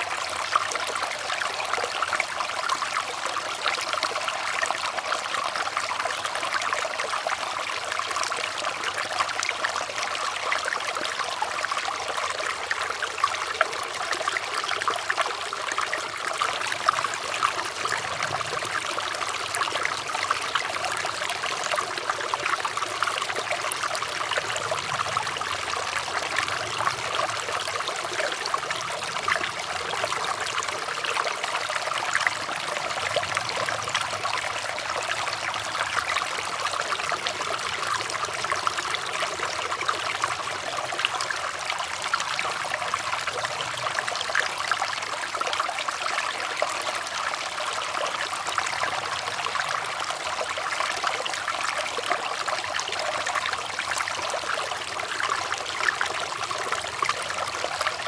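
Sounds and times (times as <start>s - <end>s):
water trickling: 0.1s - 58.0s.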